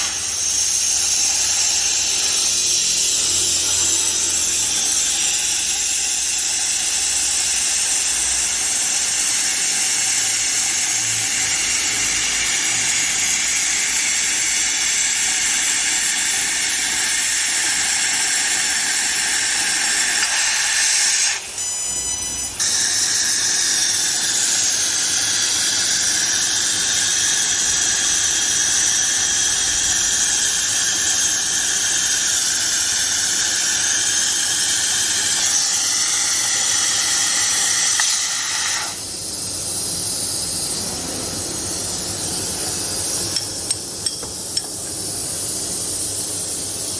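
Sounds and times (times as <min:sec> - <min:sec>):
laser cutter hissing: 0:00.0 - 0:46.9.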